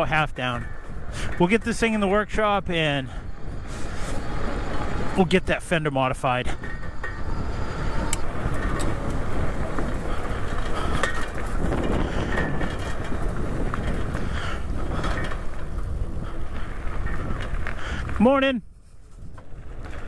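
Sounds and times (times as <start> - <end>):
bike rolling noise: 0.0 - 20.0
wind rush on microphone: 0.0 - 20.0.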